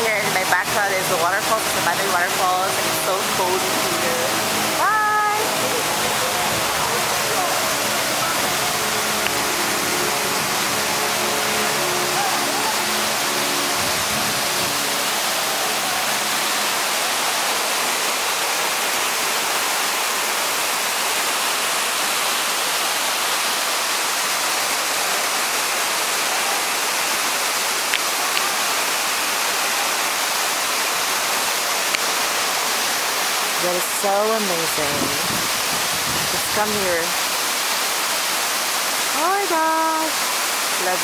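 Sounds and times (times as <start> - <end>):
waterfall pouring into pool: 0.0 - 41.0.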